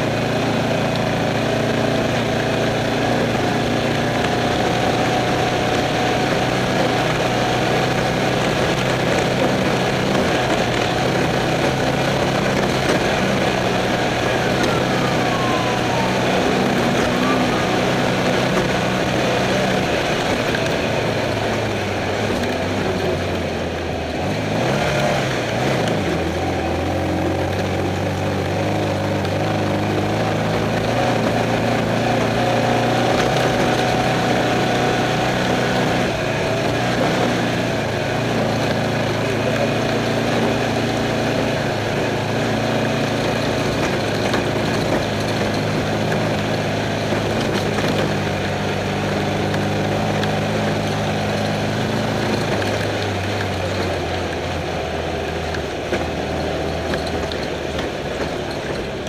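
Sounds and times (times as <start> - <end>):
race car engine running: 0.0 - 59.0
rattle and road noise: 0.0 - 59.0.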